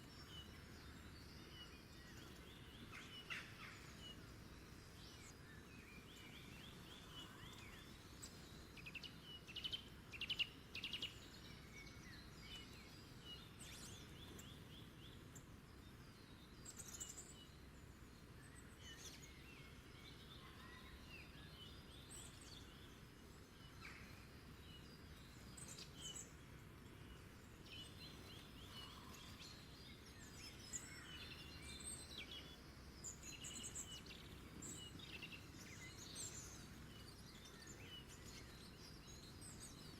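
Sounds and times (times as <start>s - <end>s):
low background hiss: 0.0s - 39.9s
small birds chirping and trilling: 0.0s - 39.9s.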